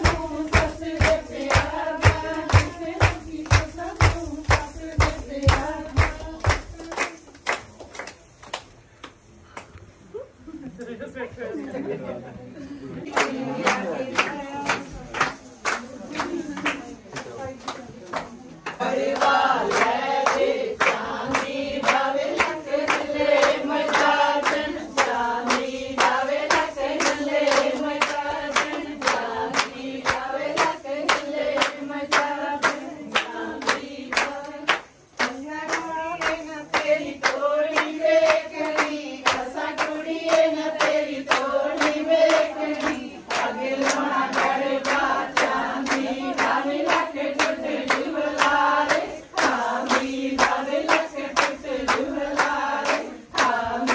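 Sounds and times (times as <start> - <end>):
women singing together: 0.0 - 7.4, 13.1 - 53.9
rhythmic hand-clapping: 0.0 - 9.8, 13.0 - 53.9.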